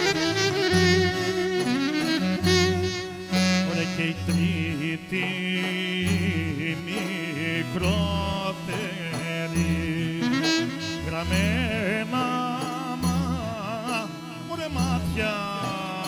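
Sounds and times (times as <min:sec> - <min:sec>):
clarinet: 0:00.0 - 0:05.3, 0:07.8 - 0:16.0
man singing into a microphone: 0:00.0 - 0:16.0.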